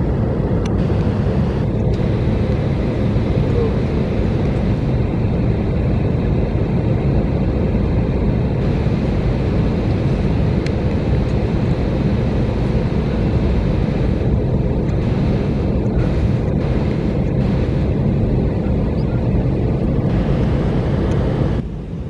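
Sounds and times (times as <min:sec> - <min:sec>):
airliner cabin air conditioning: 0:00.0 - 0:22.0.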